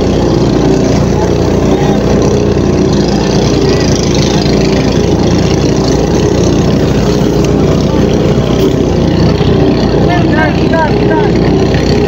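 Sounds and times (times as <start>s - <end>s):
fire hose spraying water: 0.0s - 12.0s
ship machinery drone: 0.0s - 12.0s.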